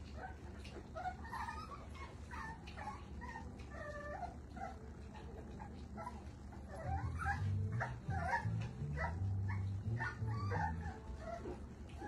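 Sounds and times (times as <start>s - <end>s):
puppies whimpering and squealing: 0.0s - 12.0s.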